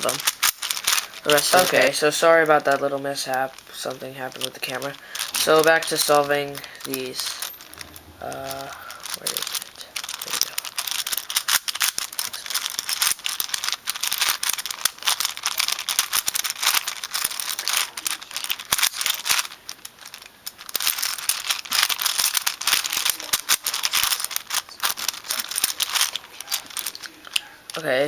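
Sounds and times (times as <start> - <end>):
puzzle cube plastic clicks: 0.0 - 28.0.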